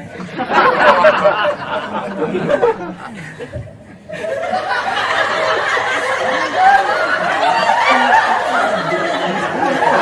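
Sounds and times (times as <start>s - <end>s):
people snickering and laughing: 0.0s - 10.0s.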